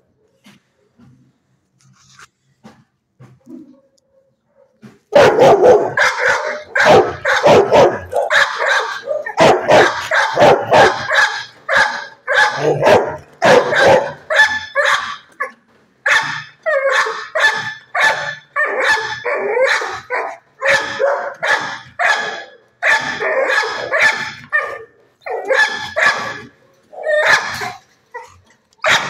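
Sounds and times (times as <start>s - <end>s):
dog barking: 3.6s - 15.3s, 16.1s - 27.8s.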